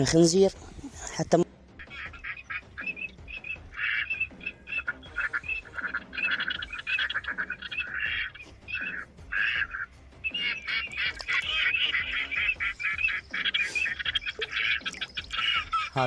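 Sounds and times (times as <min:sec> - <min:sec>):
bird cackling calls: 0:01.8 - 0:16.0.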